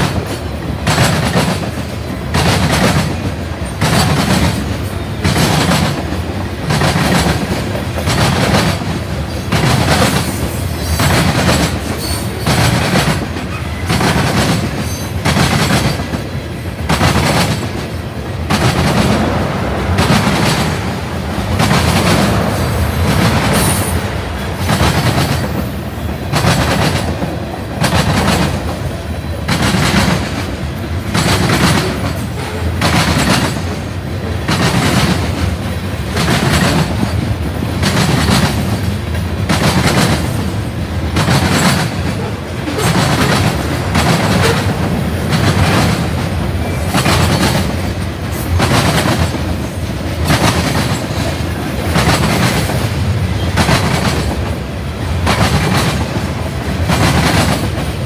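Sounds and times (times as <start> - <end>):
train wheels clacking on rails: 0.0 - 58.0.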